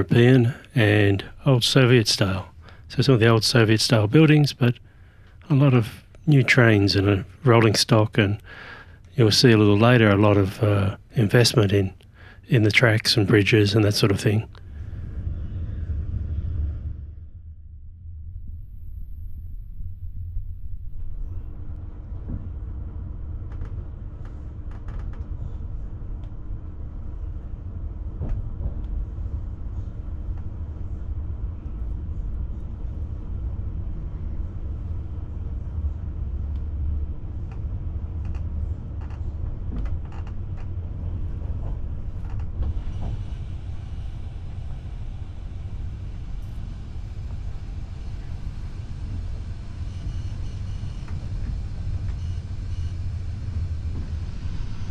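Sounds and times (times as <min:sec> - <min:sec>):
train rumbling on track: 0:00.0 - 0:18.4, 0:20.0 - 0:54.9.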